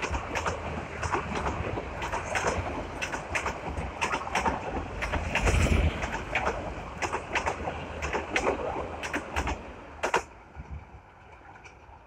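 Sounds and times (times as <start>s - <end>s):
train coaches rumbling past: 0.0s - 12.0s
wheels clacking over rail joints: 0.0s - 12.0s.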